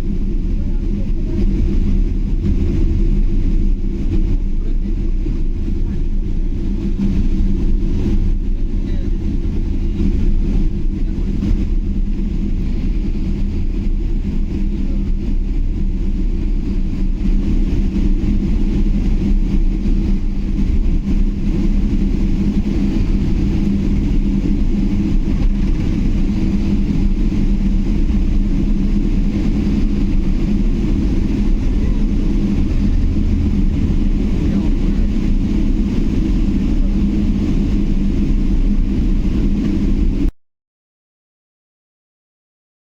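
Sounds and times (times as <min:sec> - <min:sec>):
constant low hum: 0:00.0 - 0:40.3
airliner engines and airflow: 0:00.0 - 0:40.4.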